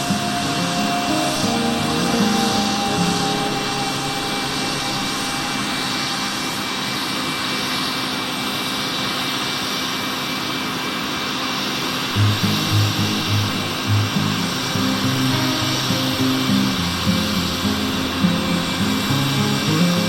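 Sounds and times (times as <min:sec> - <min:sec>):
helicopter turbine engines: 0:00.0 - 0:20.0.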